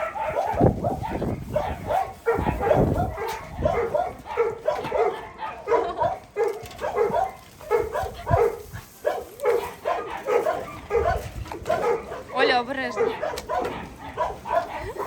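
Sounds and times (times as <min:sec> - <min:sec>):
dogs barking and yelping: 0:00.0 - 0:15.0.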